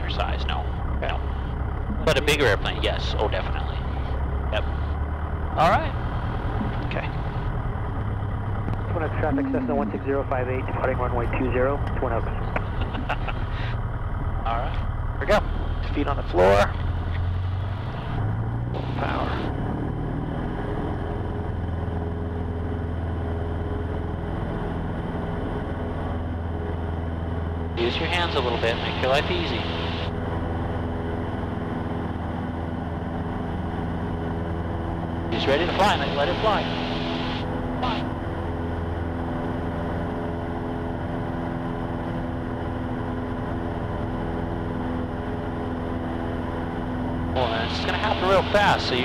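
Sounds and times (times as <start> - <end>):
light aircraft engine drone: 0.0 - 49.0.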